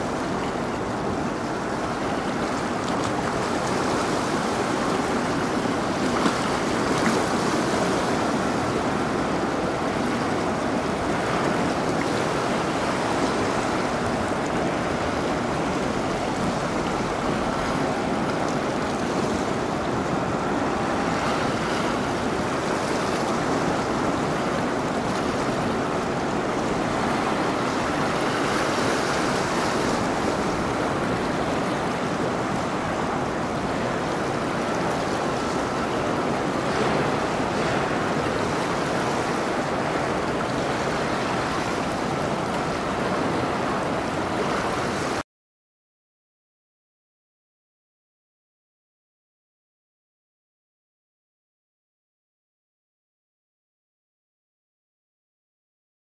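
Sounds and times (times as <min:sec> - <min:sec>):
water rushing and washing: 0:00.0 - 0:45.2.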